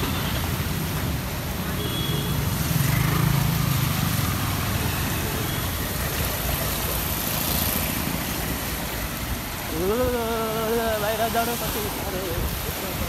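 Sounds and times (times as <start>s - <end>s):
noisy water wash: 0.0s - 13.0s.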